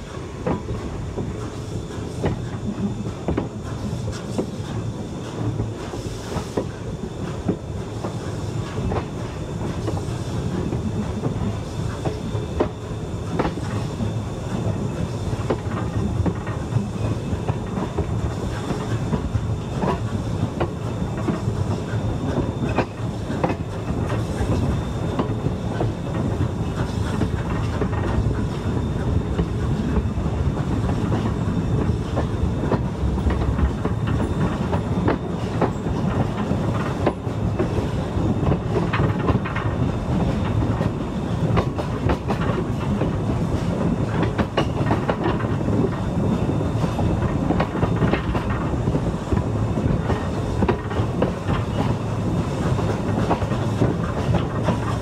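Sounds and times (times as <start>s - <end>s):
train cars rumbling: 0.0s - 55.0s.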